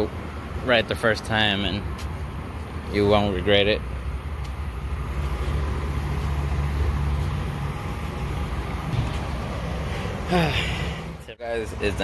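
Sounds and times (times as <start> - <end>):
truck engine idling: 0.1 - 12.0.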